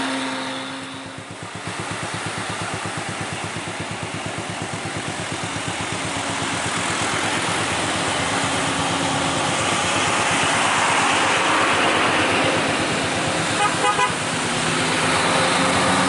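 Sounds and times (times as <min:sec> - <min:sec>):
truck diesel engine under load: 0:00.0 - 0:16.0.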